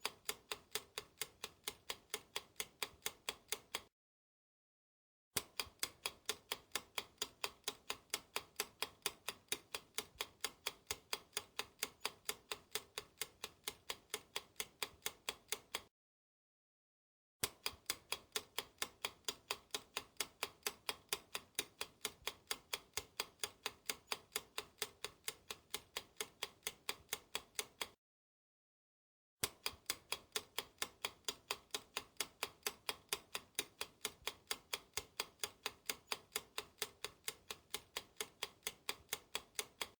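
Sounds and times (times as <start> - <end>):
clock ticking: 0.0 - 3.9, 5.4 - 15.9, 17.4 - 28.0, 29.4 - 39.9.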